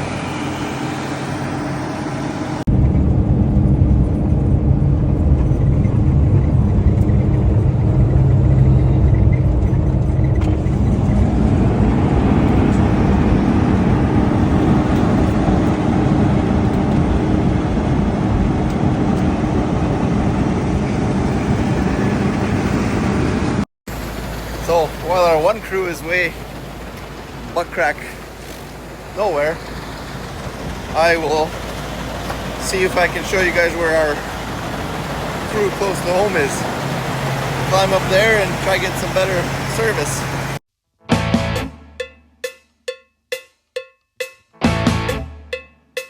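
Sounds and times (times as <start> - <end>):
vehicle engine and road noise: 0.0 - 40.6.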